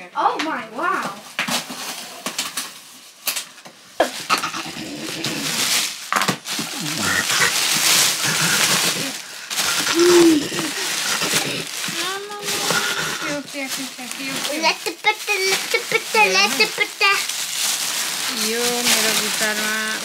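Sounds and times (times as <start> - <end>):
plastic bags crinkling: 0.8 - 20.0.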